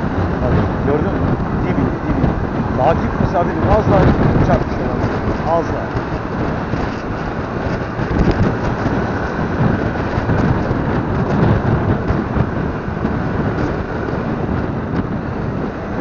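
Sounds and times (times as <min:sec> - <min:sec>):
passing traffic: 0:00.0 - 0:16.0
scooter engine: 0:00.0 - 0:16.0
wind buffeting microphone: 0:00.0 - 0:16.0.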